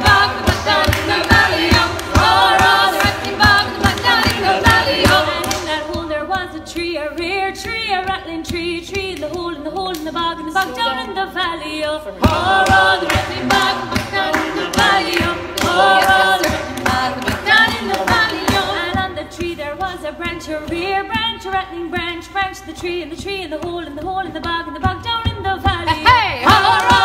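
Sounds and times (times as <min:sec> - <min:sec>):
sharp percussive beats: 0:00.0 - 0:11.3, 0:12.1 - 0:27.0
women singing unaccompanied: 0:00.0 - 0:27.0.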